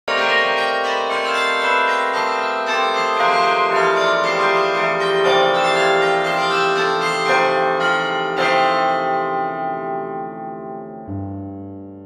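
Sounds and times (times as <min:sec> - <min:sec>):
bells pealing: 0:00.1 - 0:10.5.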